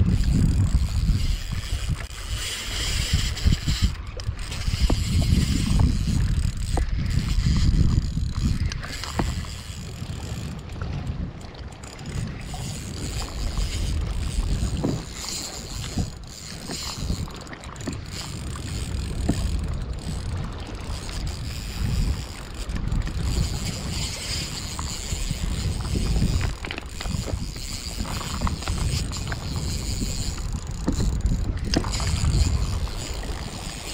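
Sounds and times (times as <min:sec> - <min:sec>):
fishing reel being cranked: 0:00.0 - 0:33.9
wind on microphone: 0:00.0 - 0:33.9.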